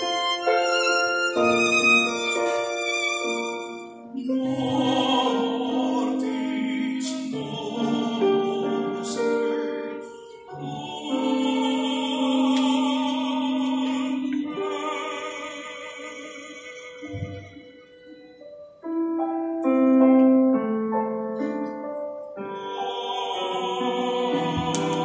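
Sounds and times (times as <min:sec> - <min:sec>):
hymn singing: 0:00.0 - 0:18.4, 0:22.4 - 0:25.0.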